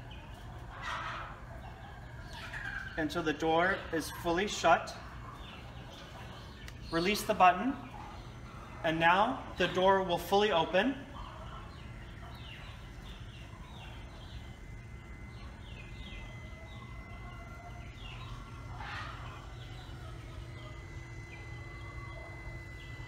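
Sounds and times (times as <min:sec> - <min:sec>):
low steady hum: 0:00.0 - 0:23.0
small birds chirping: 0:00.0 - 0:23.0.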